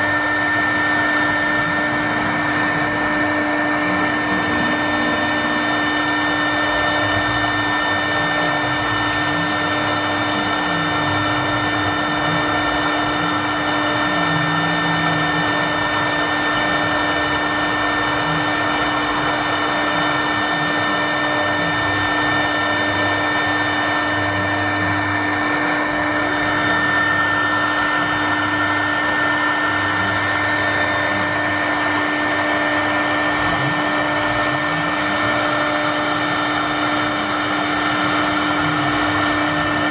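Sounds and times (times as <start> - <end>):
motor tones changing pitch: 0.0 - 39.9
router spindle high-pitched whine: 0.0 - 39.9.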